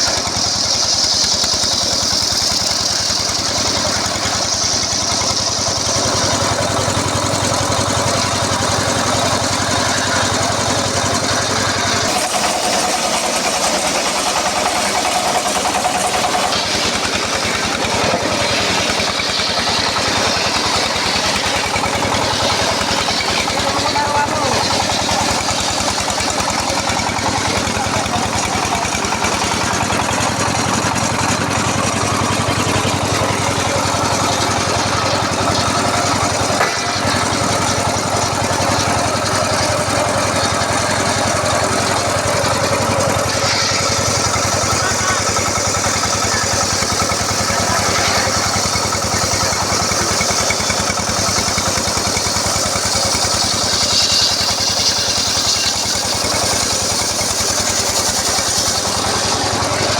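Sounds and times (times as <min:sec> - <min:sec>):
saw blade hissing through log: 0:00.0 - 0:59.9
sawmill engine hum: 0:00.0 - 0:59.9.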